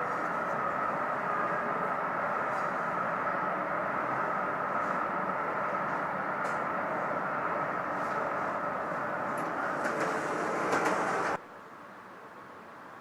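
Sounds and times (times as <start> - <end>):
train wheels on rails: 0.0 - 11.4.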